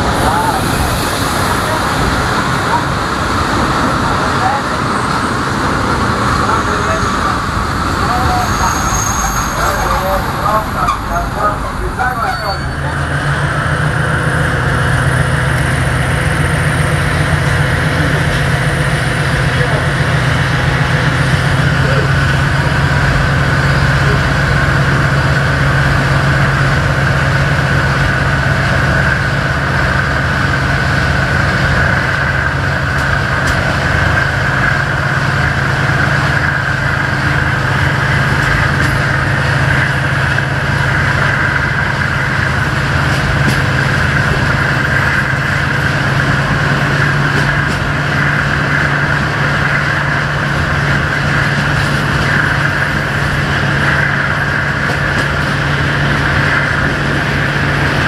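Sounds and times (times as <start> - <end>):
locomotive engine hum: 0.0 - 58.0
rush of moving train: 0.0 - 58.0.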